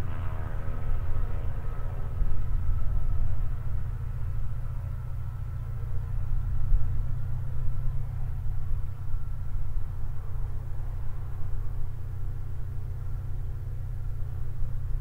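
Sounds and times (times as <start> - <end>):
diesel locomotive engine hum: 0.0 - 15.0
low rumble: 0.0 - 15.0.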